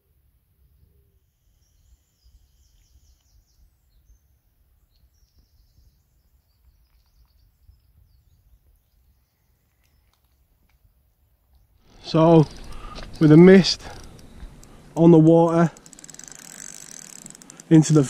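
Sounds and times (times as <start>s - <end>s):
faint birdsong chirps: 0.3s - 18.0s.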